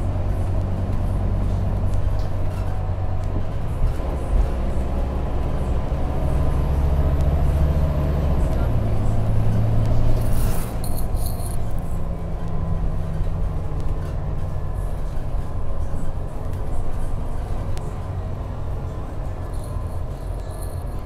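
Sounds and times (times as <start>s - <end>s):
bus diesel engine drone: 0.0s - 21.0s.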